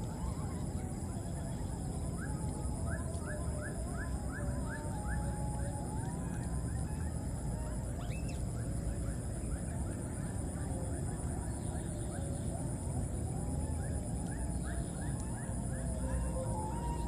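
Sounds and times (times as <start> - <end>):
pulsing high-pitched whine: 0.0 - 17.0.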